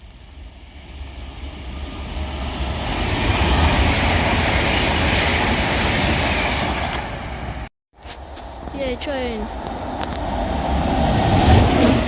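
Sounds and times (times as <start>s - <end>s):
train passing roar: 0.0s - 7.7s, 8.8s - 12.0s.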